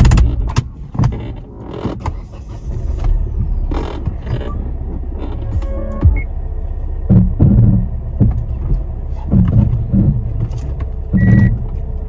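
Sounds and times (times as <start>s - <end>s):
car body knocking and creaking: 0.0s - 12.0s
car engine and road rumble: 0.0s - 12.0s.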